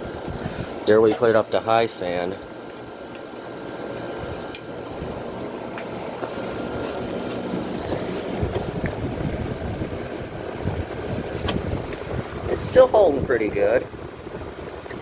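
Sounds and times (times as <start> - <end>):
air conditioner fan rushing: 0.0 - 15.0
compressor hum: 0.0 - 15.0.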